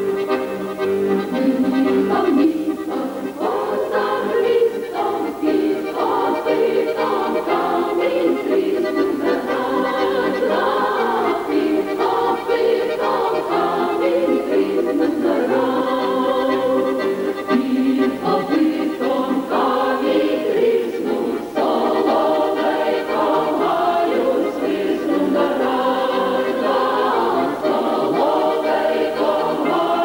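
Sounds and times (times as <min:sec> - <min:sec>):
folk choir singing: 0:00.0 - 0:30.0.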